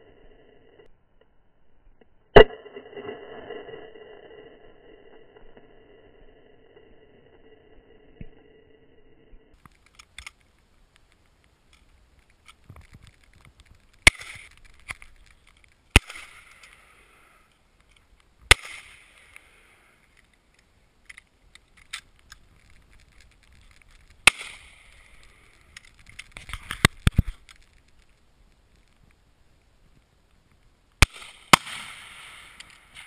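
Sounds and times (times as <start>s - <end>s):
sharp cracks and clicks: 2.0s - 33.0s.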